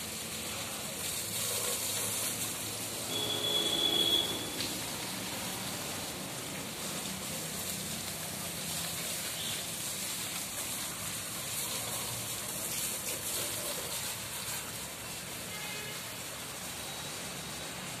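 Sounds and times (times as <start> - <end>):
hose water spraying and splashing: 0.0 - 18.0.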